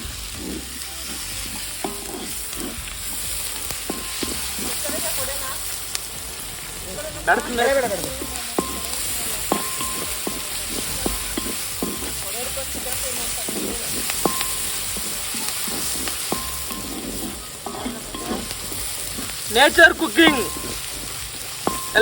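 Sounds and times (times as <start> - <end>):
onions sizzling in oil: 0.0 - 22.0
utensil knocking on pan: 0.4 - 5.5, 7.2 - 22.0.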